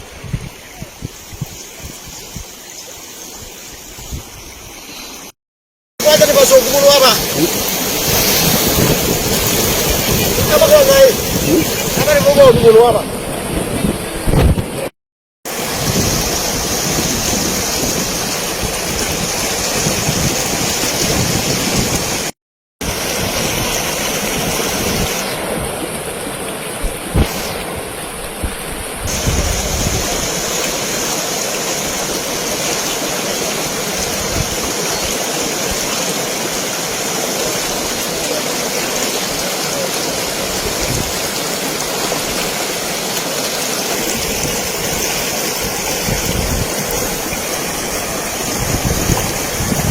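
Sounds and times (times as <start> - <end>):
floodwater rushing: 0.0 - 5.4, 6.0 - 14.9, 15.5 - 49.9.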